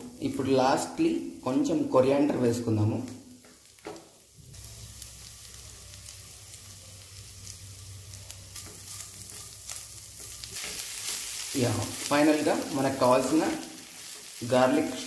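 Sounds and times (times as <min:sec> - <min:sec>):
prawns sizzling in a frying pan: 0:00.0 - 0:15.0.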